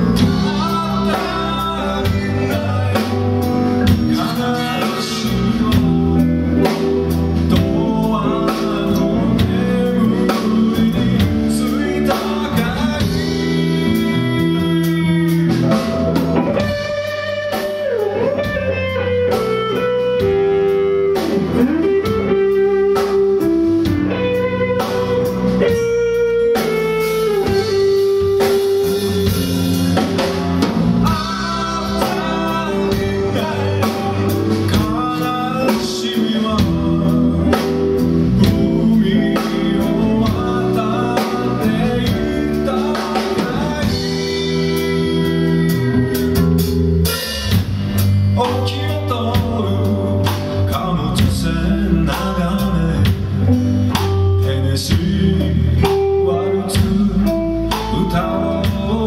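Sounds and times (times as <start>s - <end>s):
person singing: 0.0s - 47.7s, 48.3s - 59.0s
acoustic and electric guitars: 0.0s - 59.0s
drum kit: 0.0s - 59.0s.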